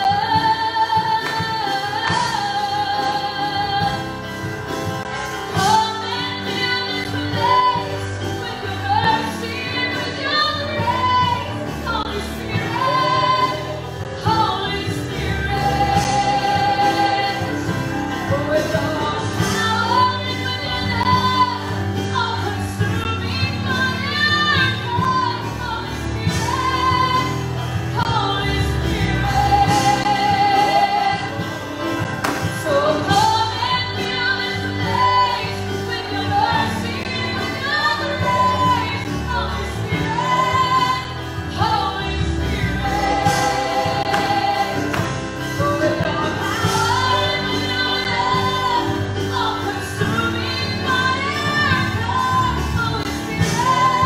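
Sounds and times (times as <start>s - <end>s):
woman singing gospel: 0.0s - 4.5s, 5.2s - 54.0s
live band playing: 0.0s - 54.0s.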